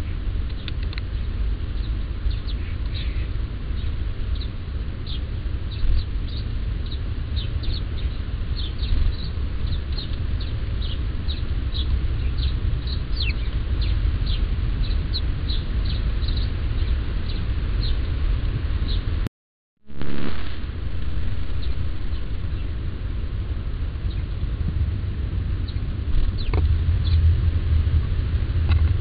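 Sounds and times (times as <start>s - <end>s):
small birds chirping: 0.0s - 18.1s, 18.8s - 19.1s, 20.1s - 23.1s, 23.9s - 24.4s, 25.6s - 27.3s
steady low rumble: 0.0s - 29.0s.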